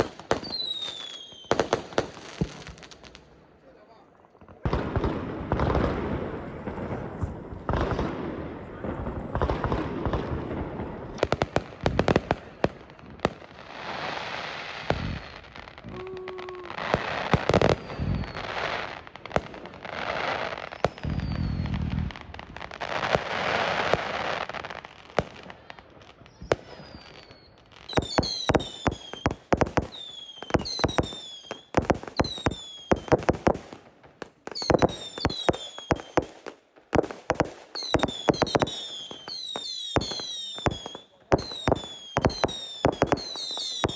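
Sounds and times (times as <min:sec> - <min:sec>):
fireworks banging: 0:00.0 - 0:03.4, 0:04.4 - 0:43.9
fireworks crackling: 0:00.0 - 0:43.9.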